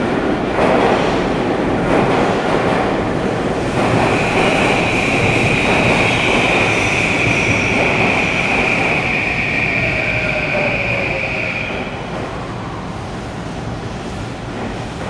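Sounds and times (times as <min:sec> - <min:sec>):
high-pitched train whine: 0:00.0 - 0:15.0
train wheels rumbling on rail: 0:00.0 - 0:15.0.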